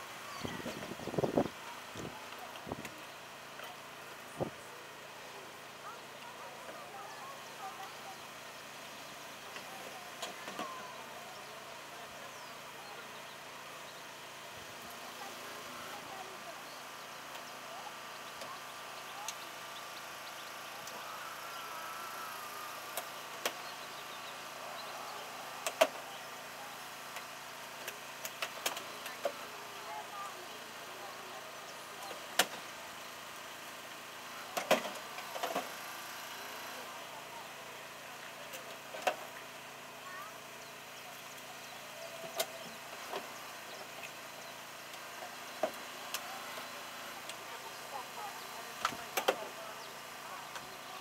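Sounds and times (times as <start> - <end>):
engine humming: 0.0 - 51.0.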